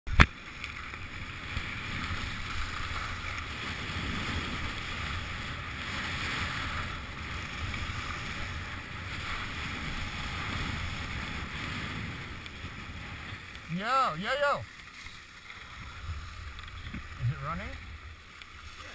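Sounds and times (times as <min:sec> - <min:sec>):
skis scraping on snow: 0:00.3 - 0:18.9.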